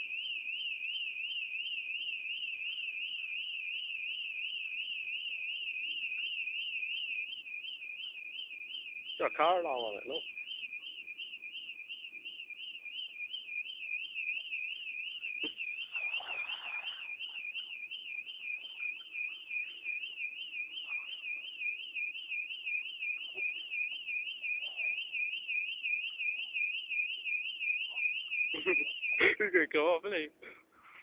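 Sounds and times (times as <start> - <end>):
electronic alarm warbling: 0.0 - 29.3.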